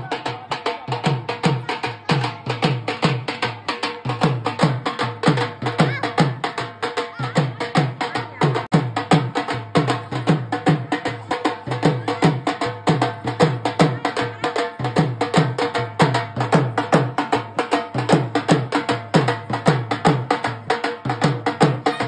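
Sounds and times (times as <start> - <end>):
dhol drumming: 0.0 - 22.0.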